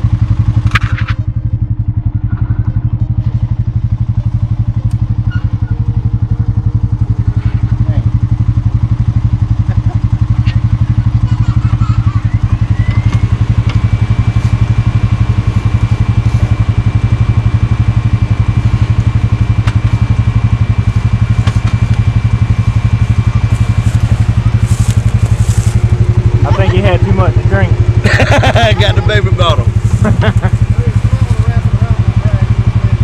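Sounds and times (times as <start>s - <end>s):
engine running with low throb: 0.0s - 33.0s.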